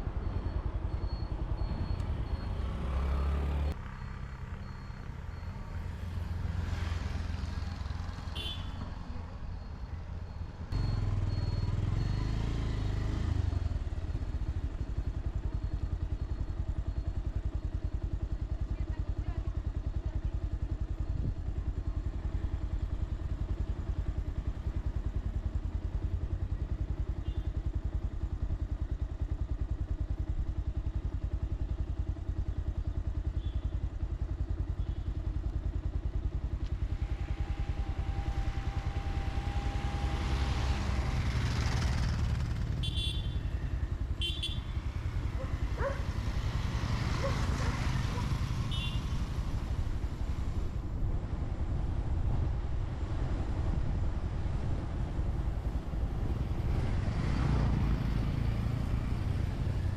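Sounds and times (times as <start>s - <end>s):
faint steady tone: 0.0s - 50.7s
motorcycle engine running: 0.0s - 59.9s.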